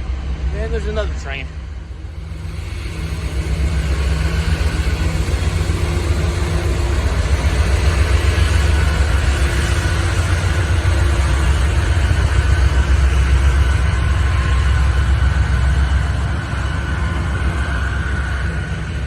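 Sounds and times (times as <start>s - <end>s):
train passing with low rumble: 0.0s - 19.0s.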